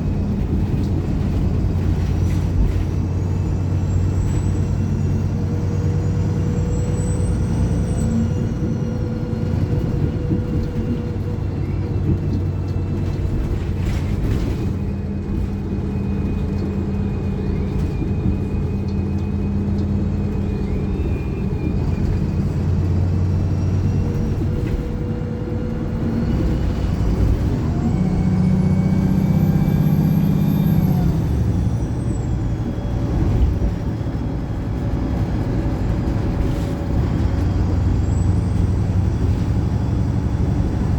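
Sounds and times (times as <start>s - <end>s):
bus diesel engine running: 0.0s - 40.9s
transmission whining: 0.0s - 40.9s.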